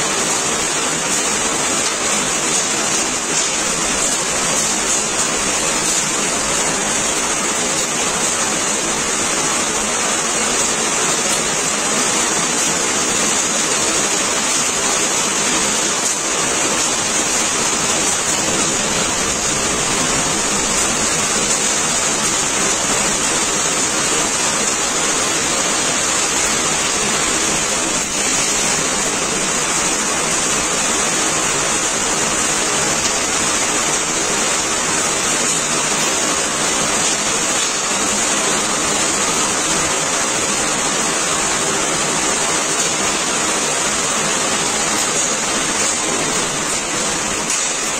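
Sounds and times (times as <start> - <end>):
heavy rain on flooded street: 0.0 - 47.9.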